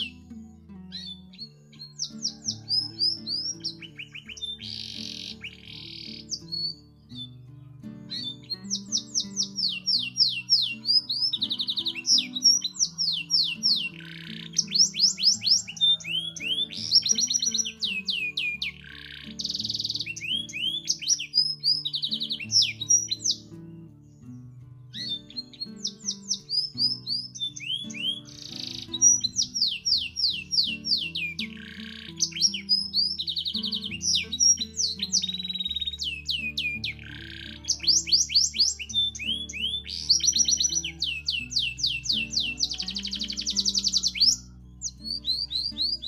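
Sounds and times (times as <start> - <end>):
canary singing: 0.0 - 46.0
soft background music: 0.0 - 46.0.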